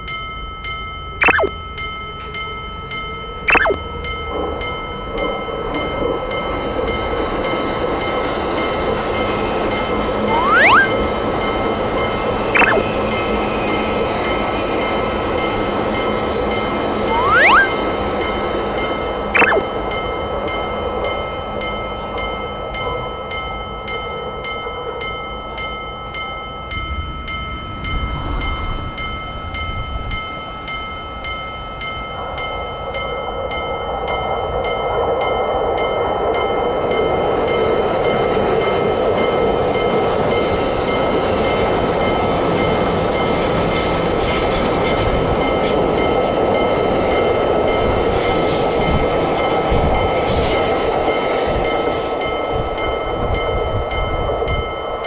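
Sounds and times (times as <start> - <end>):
railroad crossing bell ringing: 0.0 - 55.0
train running past: 2.1 - 55.0.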